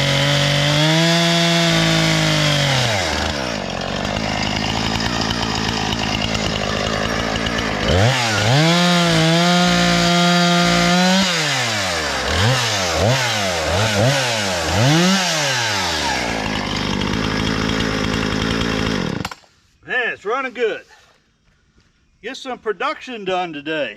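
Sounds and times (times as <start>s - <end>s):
chainsaw idling and revving: 0.0s - 19.5s.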